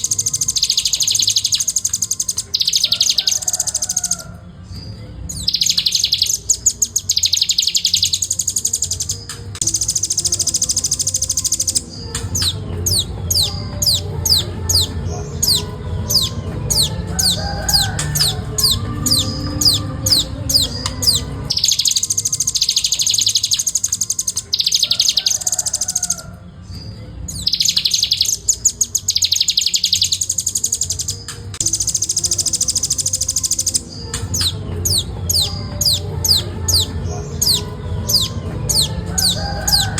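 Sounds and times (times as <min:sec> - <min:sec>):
bird singing fast trills: 0:00.0 - 0:39.9.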